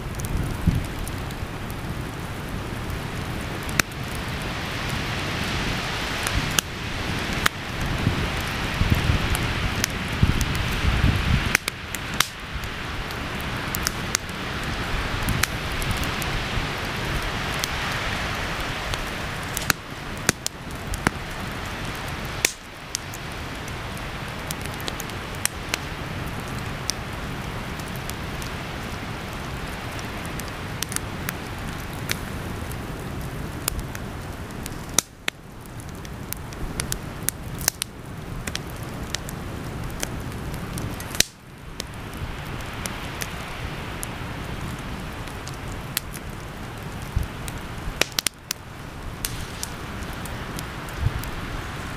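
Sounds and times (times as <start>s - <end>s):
campfire hissing and crackling: 0.0s - 51.9s.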